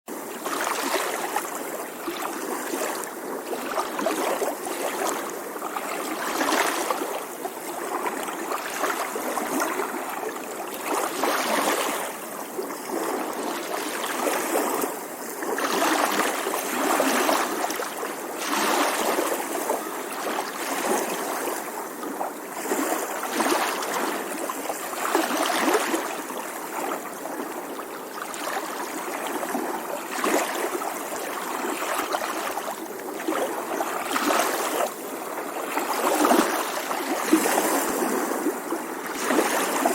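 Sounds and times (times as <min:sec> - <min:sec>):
water rushing and splashing: 0:00.1 - 0:39.9.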